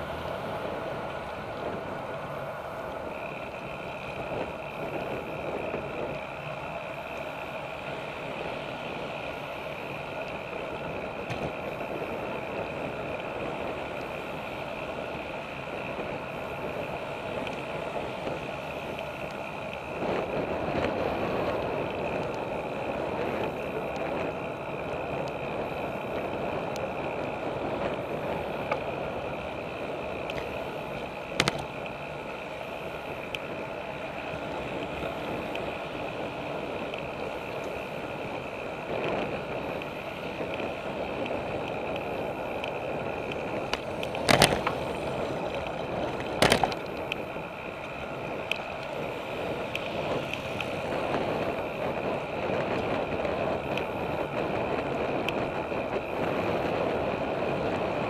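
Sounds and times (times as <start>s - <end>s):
bicycle tyre and wind noise: 0.0s - 58.0s.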